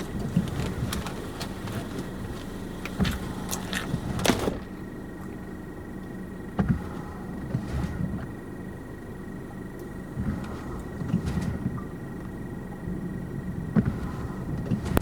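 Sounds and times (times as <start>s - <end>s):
car interior hum: 0.0s - 15.0s.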